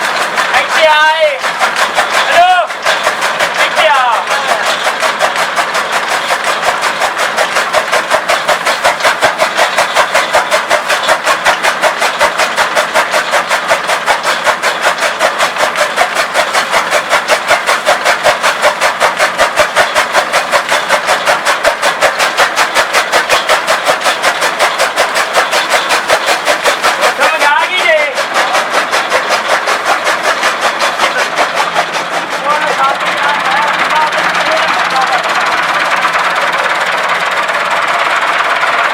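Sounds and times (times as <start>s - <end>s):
chaff cutter chopping: 0.0s - 38.9s
tractor engine running: 0.0s - 38.9s.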